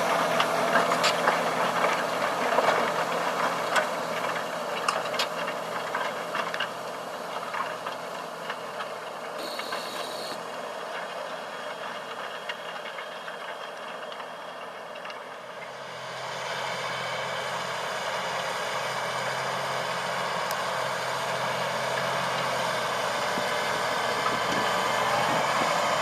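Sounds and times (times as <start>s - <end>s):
tractor diesel engine: 0.0s - 26.0s.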